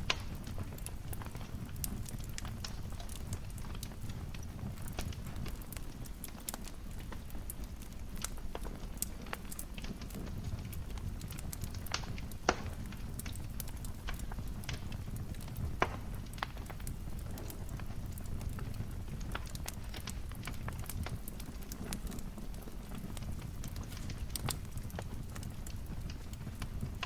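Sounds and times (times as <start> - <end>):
sharp pops and snaps: 0.0 - 27.0
wood fire crackling: 0.0 - 27.0.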